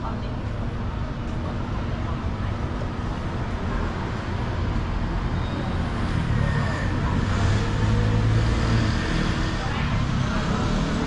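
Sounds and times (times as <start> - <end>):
rumble of cars: 0.0 - 11.0.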